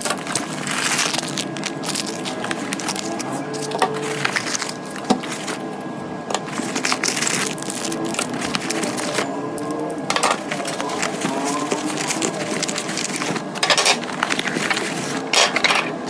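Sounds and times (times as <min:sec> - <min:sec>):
packaging crinkling: 0:00.0 - 0:15.3.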